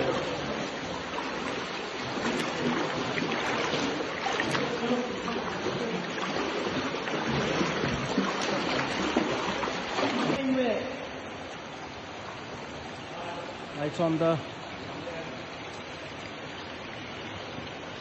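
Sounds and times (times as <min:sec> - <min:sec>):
cave river rushing and gurgling: 0:00.0 - 0:18.0.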